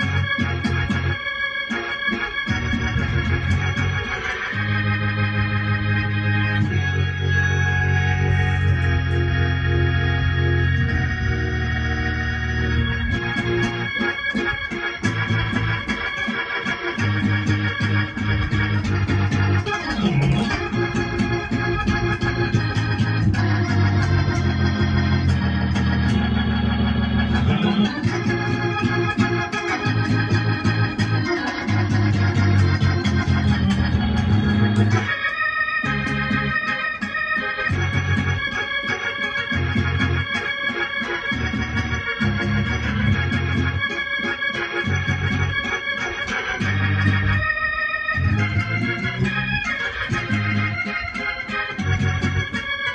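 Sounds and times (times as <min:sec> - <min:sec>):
electronic keyboard gospel chords: 0:00.0 - 0:52.9.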